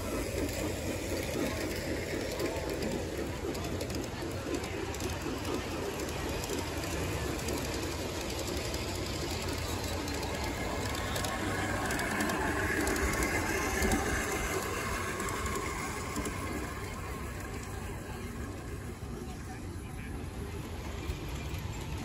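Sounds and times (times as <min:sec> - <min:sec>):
model train wheels rumbling on rails: 0:00.0 - 0:22.0.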